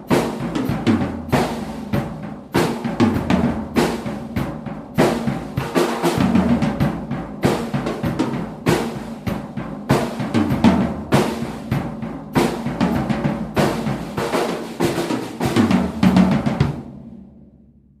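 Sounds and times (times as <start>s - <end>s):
drum kit playing a beat: 0.0s - 17.5s.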